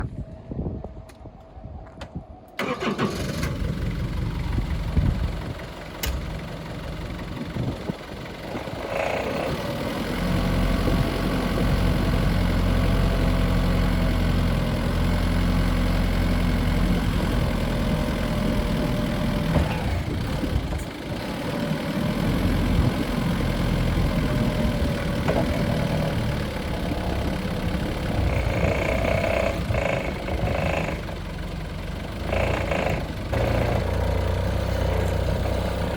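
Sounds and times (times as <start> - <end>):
diesel forklift engine running: 2.6 - 35.9.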